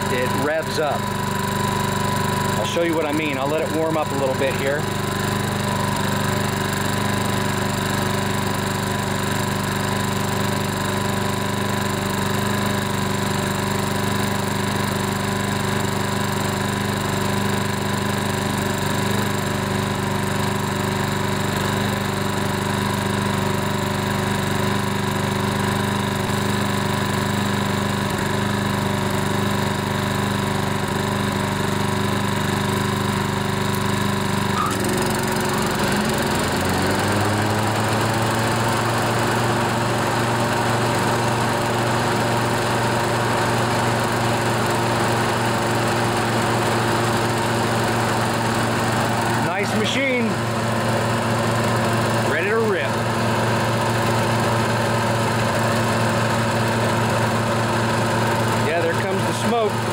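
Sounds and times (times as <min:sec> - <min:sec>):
lawn mower engine idling: 0:00.0 - 0:59.9.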